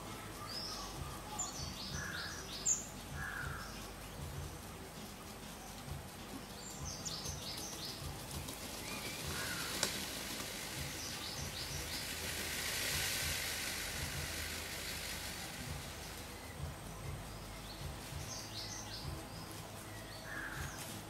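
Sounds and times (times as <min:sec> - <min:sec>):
broad rushing noise: 0:00.0 - 0:21.0.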